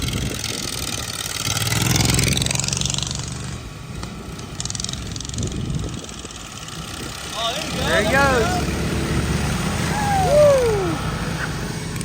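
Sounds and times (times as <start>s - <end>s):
lawn mower engines racing: 0.0s - 12.0s.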